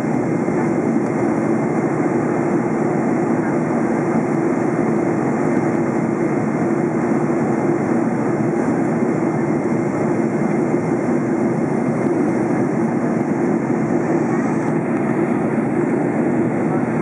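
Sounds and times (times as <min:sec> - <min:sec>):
airplane cabin airflow rush: 0:00.0 - 0:17.0
jet engines through fuselage: 0:00.0 - 0:17.0.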